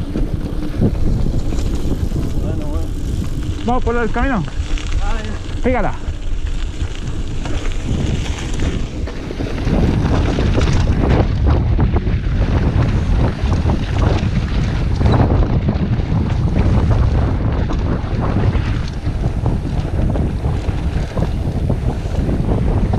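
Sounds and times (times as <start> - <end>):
bike knocks and rattles: 0.0 - 22.9
bike rolling on gravel: 0.0 - 22.9
wind buffeting microphone: 0.0 - 22.9.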